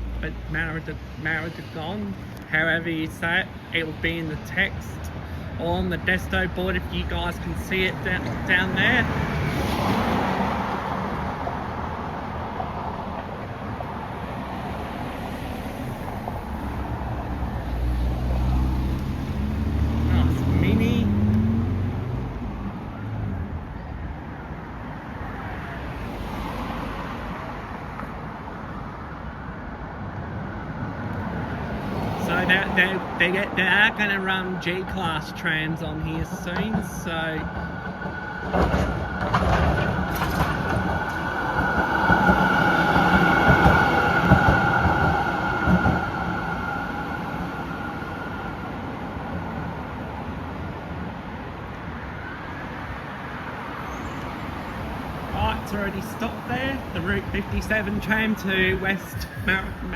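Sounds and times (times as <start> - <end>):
passing traffic tyre and engine noise: 0.0 - 59.9
tram running past: 0.0 - 59.9.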